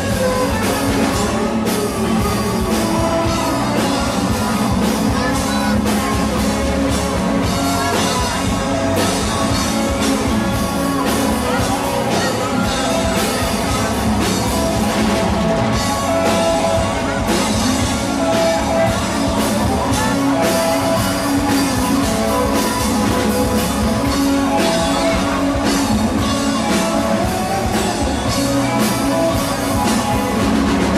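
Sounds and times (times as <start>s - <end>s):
drum kit beat: 0.0s - 30.9s
electric guitar: 0.0s - 30.9s
live rock band playing: 0.0s - 30.9s.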